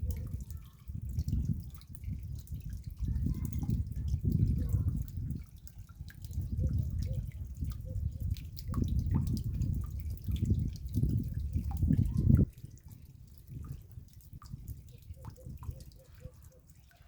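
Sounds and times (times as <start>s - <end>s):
raindrops dripping: 0.0s - 17.0s.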